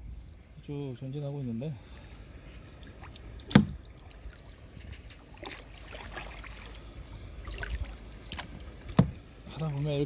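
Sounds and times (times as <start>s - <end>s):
paddle strokes splashing: 1.8s - 10.0s.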